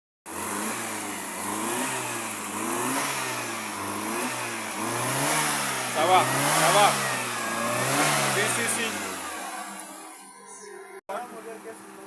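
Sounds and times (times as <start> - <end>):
engine running: 0.3 - 12.0.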